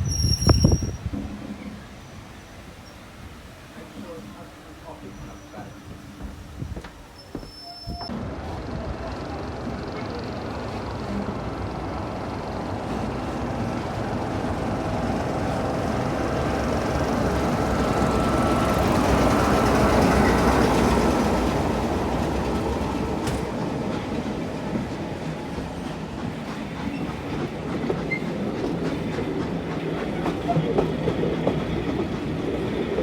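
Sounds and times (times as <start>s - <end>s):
train wheels clickety-clack: 0.1s - 1.9s, 4.8s - 33.0s.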